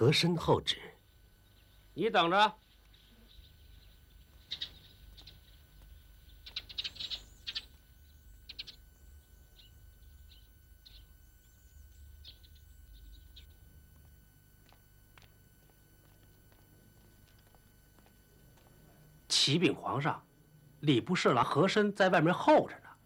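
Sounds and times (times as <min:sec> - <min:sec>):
small birds chirping: 0:00.0 - 0:19.6
faint low hum: 0:00.0 - 0:23.0.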